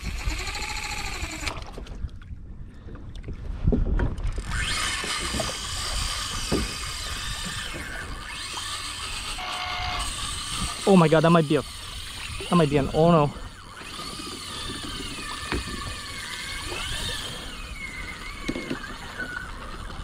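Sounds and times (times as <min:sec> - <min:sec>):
fishing reel drag whining: 0:00.0 - 0:01.8, 0:04.2 - 0:20.0
water and wind rumble: 0:00.0 - 0:20.0.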